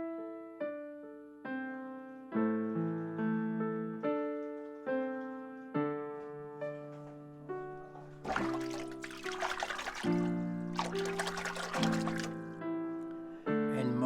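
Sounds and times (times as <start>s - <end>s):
slow piano notes and chords: 0.0s - 14.0s.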